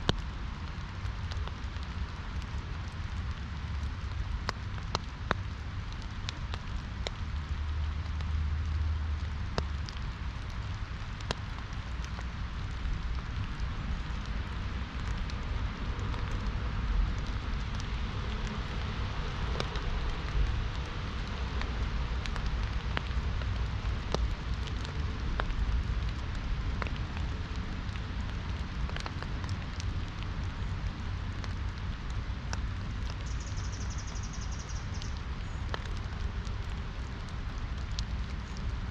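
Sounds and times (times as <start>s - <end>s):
rain on an umbrella: 0.0s - 38.9s
raindrops ticking sharply: 0.0s - 38.9s.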